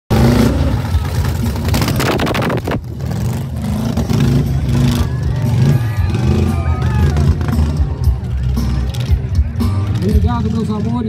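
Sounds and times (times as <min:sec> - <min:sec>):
buggy engine revving: 0:00.1 - 0:11.0.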